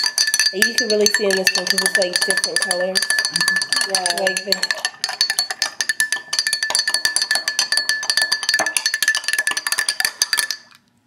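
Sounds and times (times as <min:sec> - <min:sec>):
spoon clinking in glass: 0:00.0 - 0:10.8.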